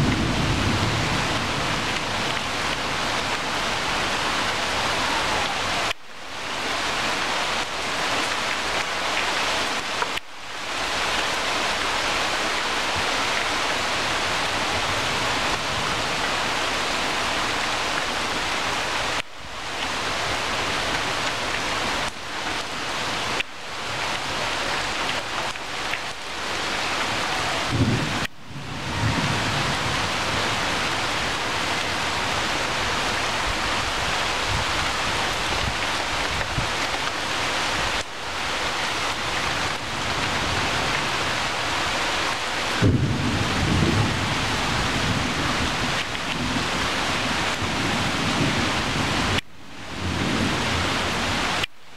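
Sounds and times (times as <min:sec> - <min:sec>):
rain falling on leaves: 0:00.0 - 0:51.9.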